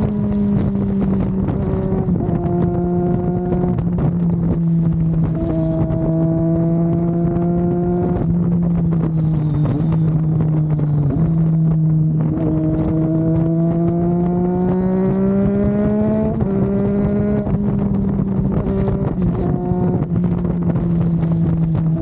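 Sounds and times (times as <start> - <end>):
wind rush: 0.0 - 22.0.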